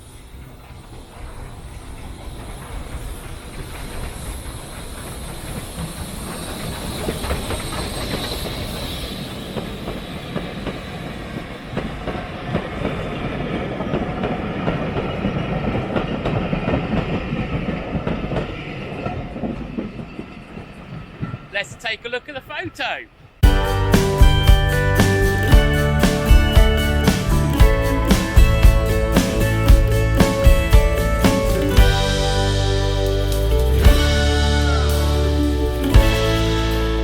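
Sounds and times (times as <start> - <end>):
wheels clacking over rail joints: 0.0 - 22.1, 23.5 - 37.0
steam locomotive passing: 0.0 - 37.0.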